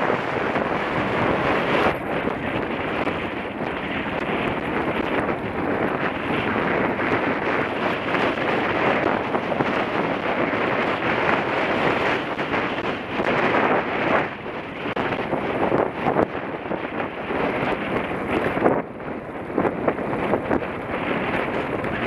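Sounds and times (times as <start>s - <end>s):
dirt bike engine running: 0.0s - 22.0s
wind rushing over microphone: 0.0s - 22.0s.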